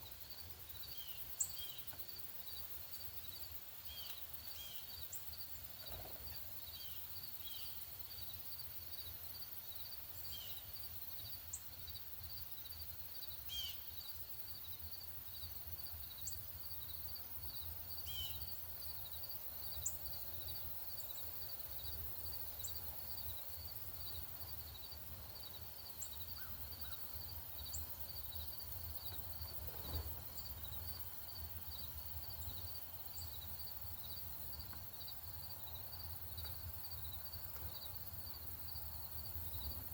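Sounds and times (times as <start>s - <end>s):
high insect chirp: 0.0s - 39.9s.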